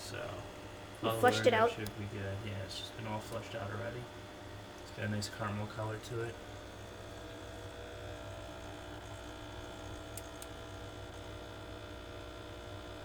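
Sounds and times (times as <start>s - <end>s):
espresso machine pump humming: 0.0s - 13.0s.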